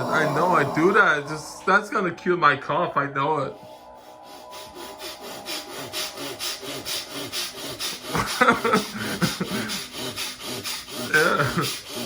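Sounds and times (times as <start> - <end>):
man breathing forcefully: 0.0 - 1.6, 3.6 - 12.0.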